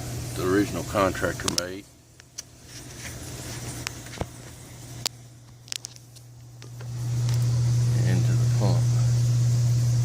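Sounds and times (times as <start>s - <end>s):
air conditioner humming: 0.0s - 10.0s.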